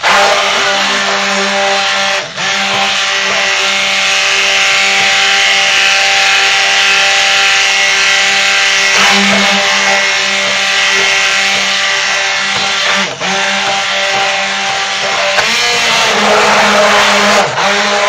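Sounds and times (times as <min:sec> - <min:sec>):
stick blender motor whine: 0:00.0 - 0:18.0.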